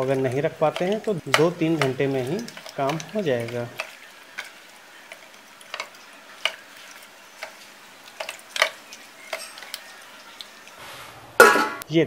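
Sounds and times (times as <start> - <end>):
hand mixing fish in metal bowl: 0.0 - 10.9.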